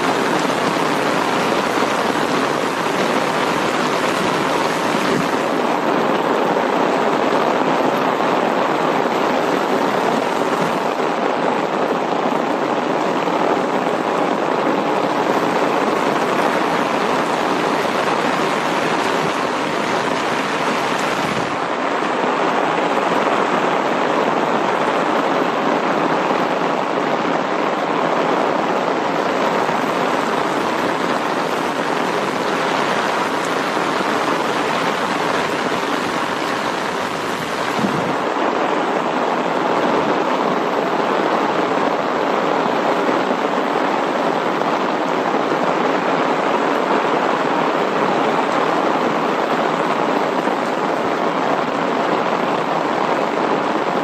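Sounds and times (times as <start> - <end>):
steady heavy rain: 0.0 - 54.0.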